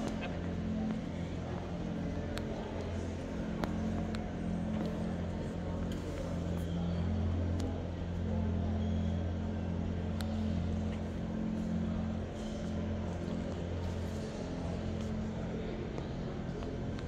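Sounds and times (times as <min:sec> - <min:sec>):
low hum of large hall: 0:00.0 - 0:17.0.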